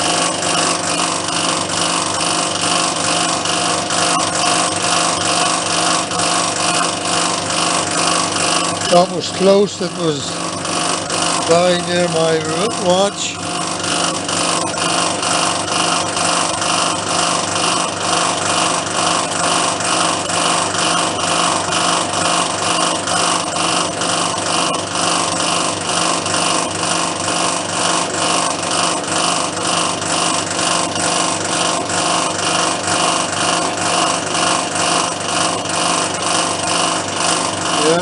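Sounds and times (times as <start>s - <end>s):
power tool cutting metal: 0.0s - 38.0s.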